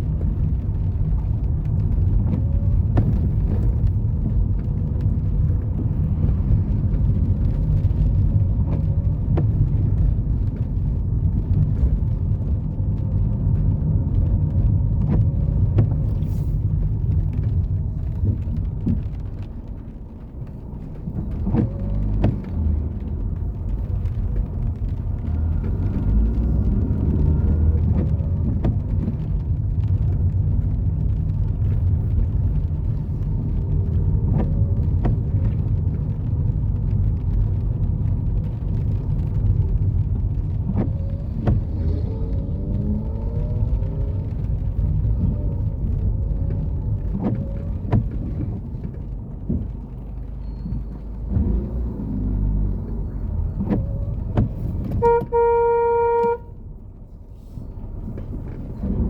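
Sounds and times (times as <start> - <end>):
cars passing with low rumble: 0.0 - 59.0.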